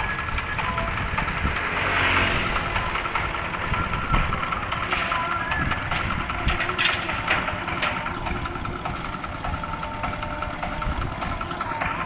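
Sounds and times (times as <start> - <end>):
thresher engine running: 0.0 - 12.0.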